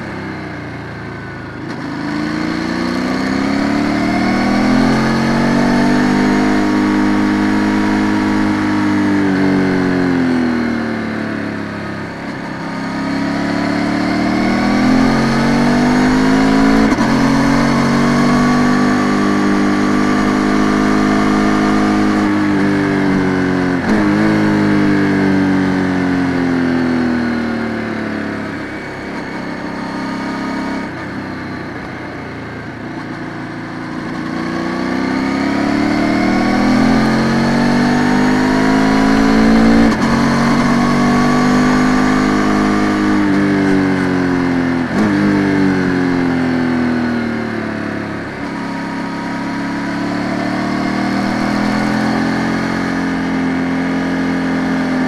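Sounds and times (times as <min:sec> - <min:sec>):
motorcycle engine under way: 0:00.0 - 0:55.0.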